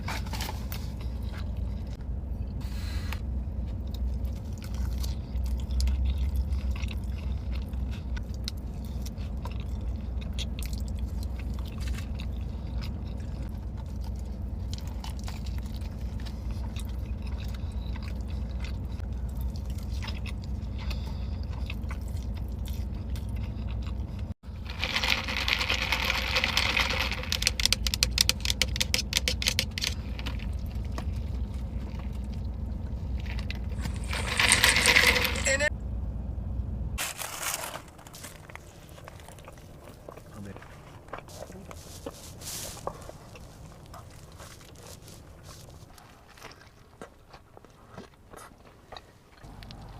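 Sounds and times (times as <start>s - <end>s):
chewing and crunching food: 0.0s - 2.2s, 3.2s - 35.7s, 37.0s - 49.9s
steady low hum: 0.0s - 49.9s.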